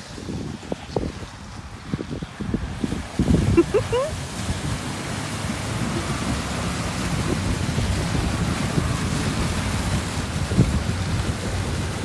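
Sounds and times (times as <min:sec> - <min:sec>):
water splashing off wheels: 0:00.0 - 0:12.0
wind buffeting microphone: 0:00.0 - 0:12.0.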